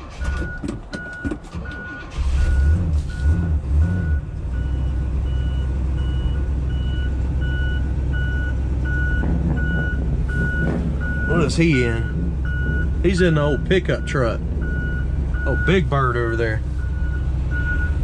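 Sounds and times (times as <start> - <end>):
reversing alarm beeping: 0.1 - 18.0
car engine revving and idling: 1.2 - 18.0.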